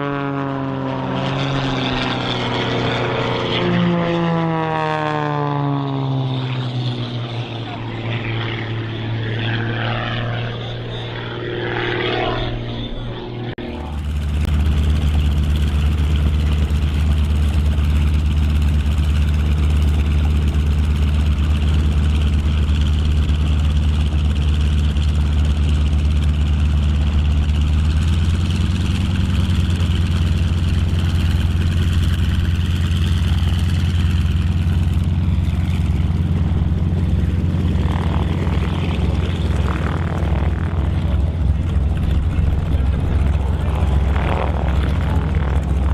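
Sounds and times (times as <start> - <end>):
propeller plane engine in flight: 0.0 - 45.9
radial engine droning on ground: 0.0 - 45.9.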